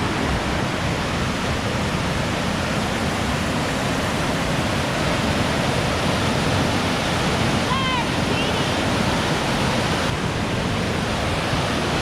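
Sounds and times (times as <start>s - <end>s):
rushing water roar: 0.0s - 12.0s.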